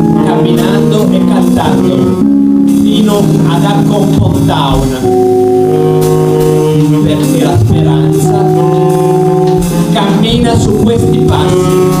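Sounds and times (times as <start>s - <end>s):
electric guitar chords: 0.0s - 12.0s
jazz band playing: 0.0s - 12.0s.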